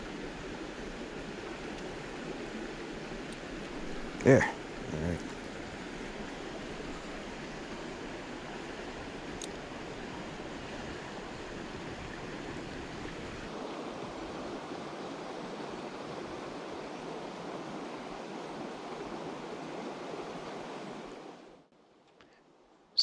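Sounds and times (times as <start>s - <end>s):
creek water running over rocks: 0.0s - 21.1s.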